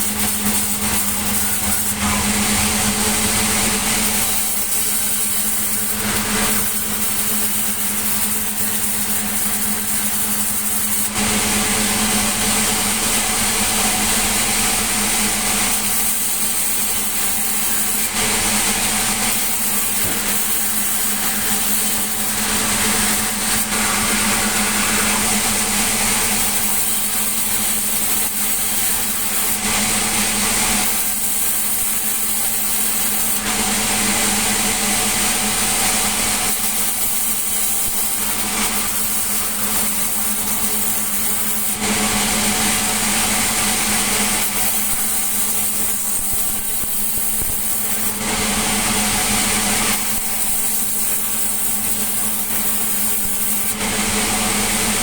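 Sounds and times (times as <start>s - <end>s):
sawmill machinery humming: 0.0s - 55.0s.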